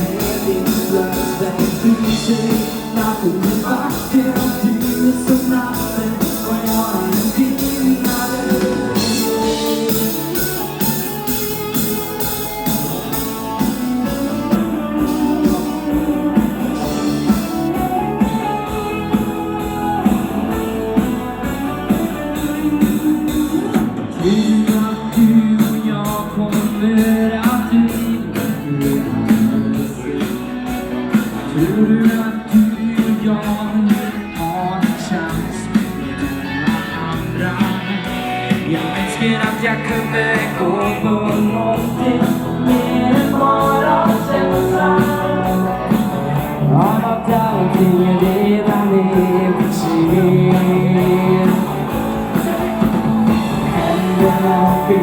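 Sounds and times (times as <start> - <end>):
dance band playing pop song: 0.0 - 55.0
guitar: 0.0 - 55.0
person singing: 0.0 - 55.0
steady drum beat: 0.0 - 55.0.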